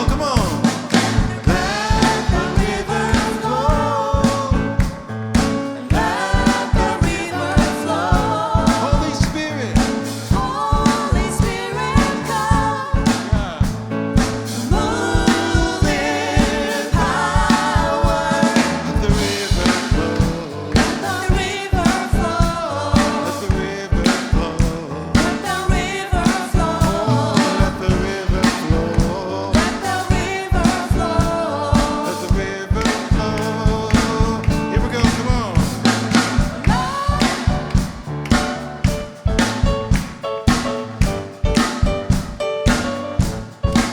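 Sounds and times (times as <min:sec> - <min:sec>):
singing: 0:00.0 - 0:13.8, 0:14.6 - 0:38.0
bass: 0:00.0 - 0:43.9
drum kit: 0:00.0 - 0:43.9.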